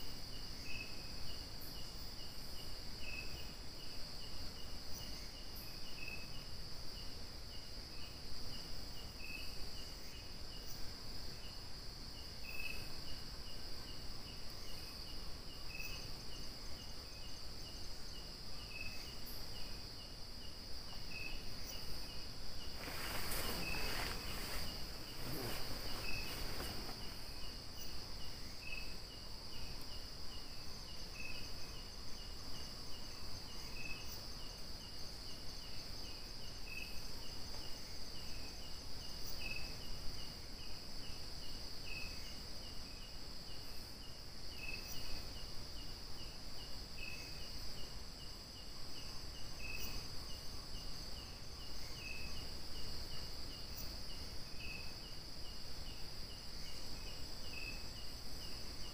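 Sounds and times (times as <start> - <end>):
crickets droning: 0.0 - 58.9
lower insect chirp: 0.0 - 58.9
rapid insect chirps: 0.0 - 58.9.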